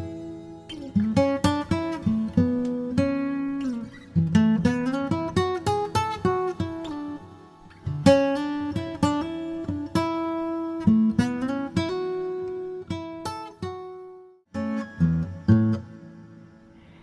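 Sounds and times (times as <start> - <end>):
plucked acoustic guitar melody: 0.0 - 17.0.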